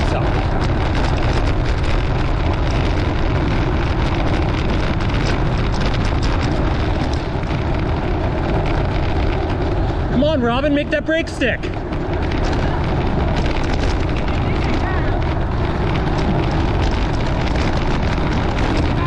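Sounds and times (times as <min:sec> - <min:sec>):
bicycle rattling: 0:00.0 - 0:19.0
wind rushing over microphone: 0:00.0 - 0:19.0.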